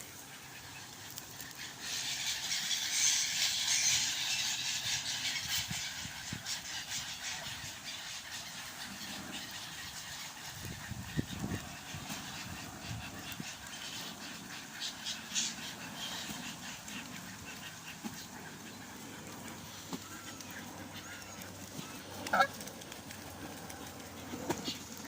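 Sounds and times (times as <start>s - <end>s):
flock of birds calling: 0.0s - 25.0s.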